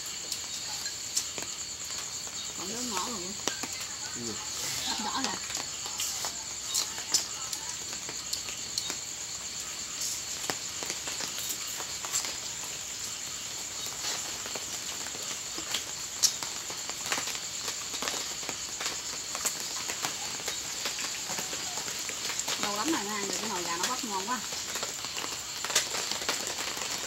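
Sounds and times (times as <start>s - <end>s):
night insects chirring: 0.0s - 27.0s.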